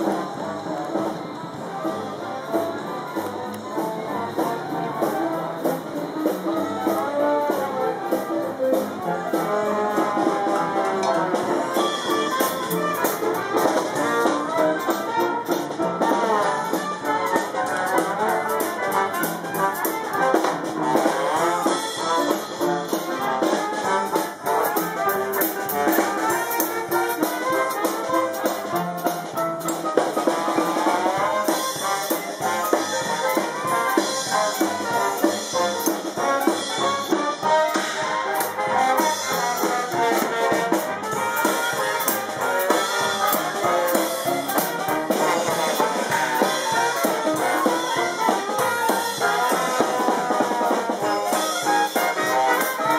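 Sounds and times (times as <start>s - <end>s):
brass horns: 0.0s - 52.9s
dixieland jazz band: 0.0s - 52.9s
drum kit: 0.0s - 52.9s.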